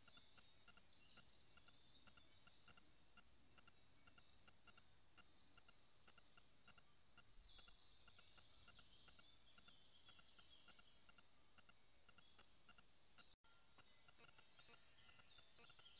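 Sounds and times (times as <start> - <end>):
faint high-pitched chirping: 0.0 - 15.9
soft regular ticking: 0.0 - 15.9.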